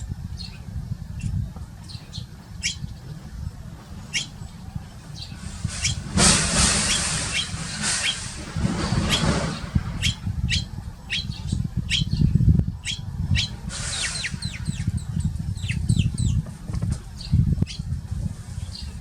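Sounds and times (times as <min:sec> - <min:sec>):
low uneven rumble: 0:00.0 - 0:19.0
sparrows chirping: 0:00.0 - 0:19.0.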